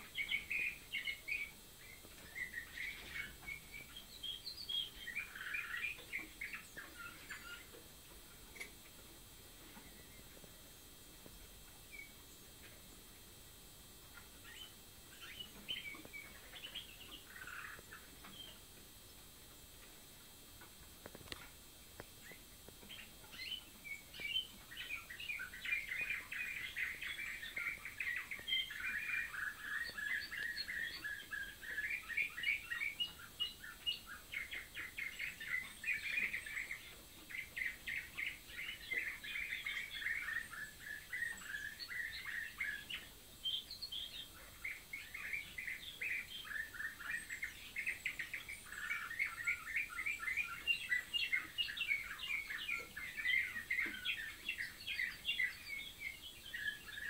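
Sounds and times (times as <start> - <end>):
canary singing rapid trills: 0.0 - 8.9, 14.0 - 18.8, 22.2 - 57.0.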